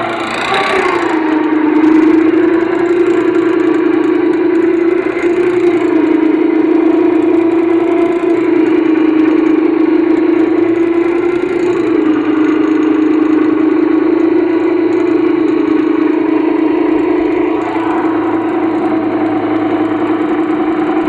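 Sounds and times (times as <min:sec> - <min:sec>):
electric boat motor whine: 0:00.0 - 0:21.0.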